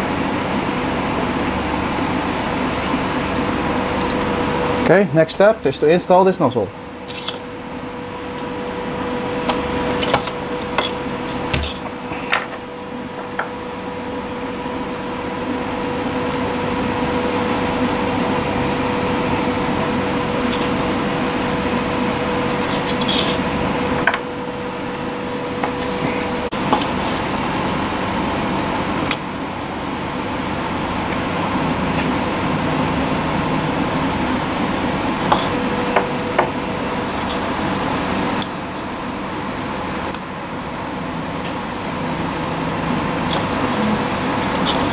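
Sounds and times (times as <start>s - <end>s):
mechanical hum and hiss: 0.0s - 44.9s.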